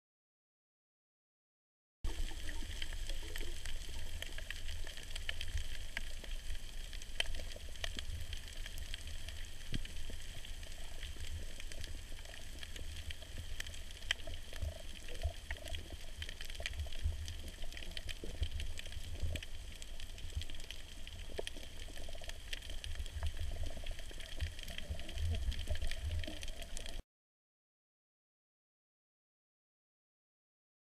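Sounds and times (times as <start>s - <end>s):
low rumble of moving water: 2.1s - 27.0s
underwater clicks and crackles: 2.1s - 27.0s.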